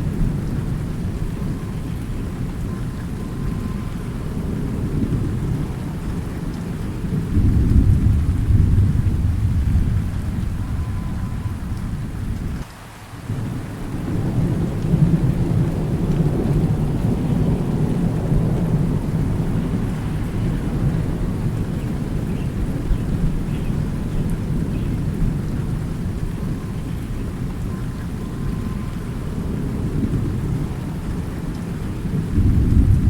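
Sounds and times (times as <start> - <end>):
rolling thunder: 0.0 - 12.7, 13.3 - 33.0
steady rain: 0.0 - 33.0.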